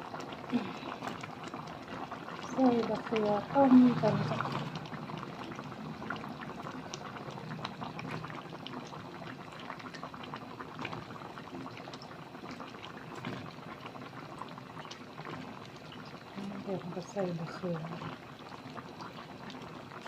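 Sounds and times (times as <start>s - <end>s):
curry bubbling at a boil: 0.0s - 20.0s.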